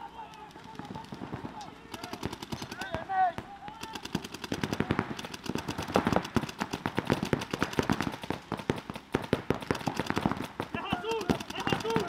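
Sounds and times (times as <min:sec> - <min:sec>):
paintball guns firing rapidly: 0:00.1 - 0:12.0.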